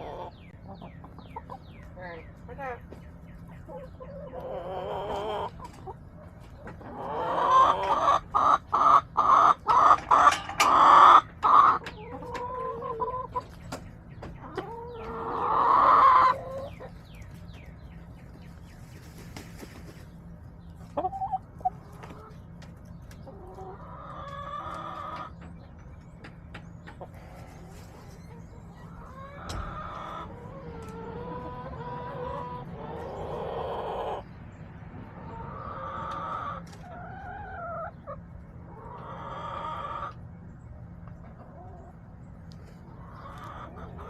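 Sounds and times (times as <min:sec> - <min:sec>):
hens clucking: 0:00.0 - 0:44.0.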